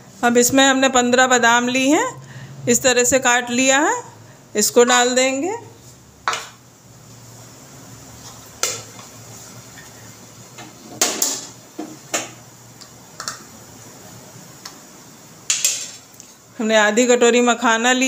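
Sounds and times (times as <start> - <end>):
faint background hum: 0.0 - 18.0.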